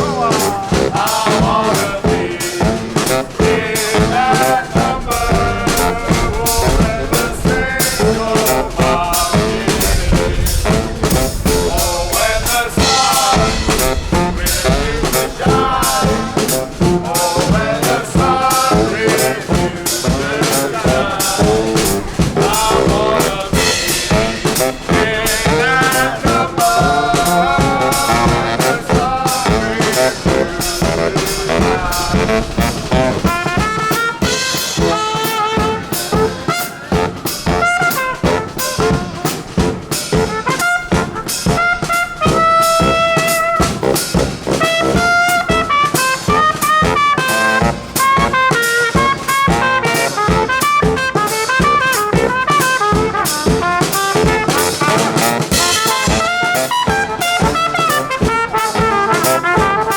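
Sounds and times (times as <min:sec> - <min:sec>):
drum kit beat: 0:00.0 - 0:59.9
live band playing instrumental: 0:00.0 - 0:59.9.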